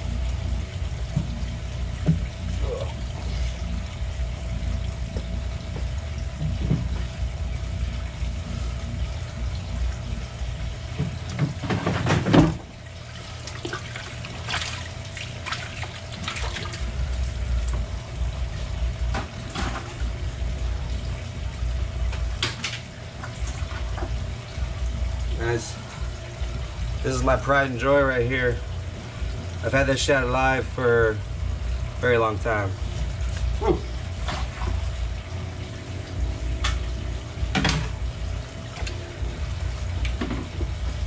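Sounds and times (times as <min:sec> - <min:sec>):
steady hum: 0:00.0 - 0:41.0
water sloshing and splashing: 0:00.0 - 0:41.0.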